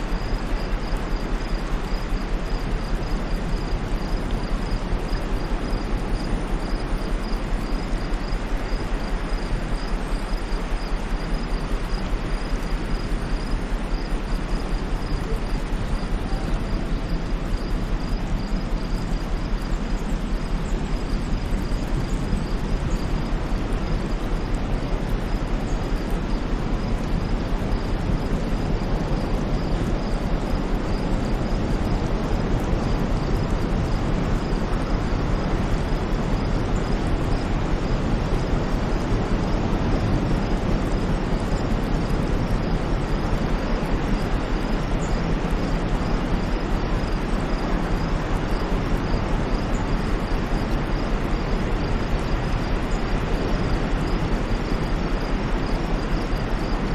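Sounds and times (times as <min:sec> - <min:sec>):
low rumbling white noise: 0:00.0 - 0:56.9.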